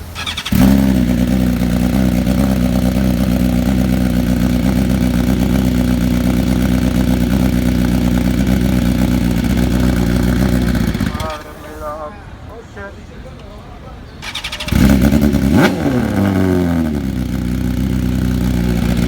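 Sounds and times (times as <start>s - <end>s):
motorcycle engine cranking: 0.0s - 11.5s, 14.2s - 19.0s
motorcycle engine idling loudly: 0.2s - 11.4s, 14.2s - 19.0s.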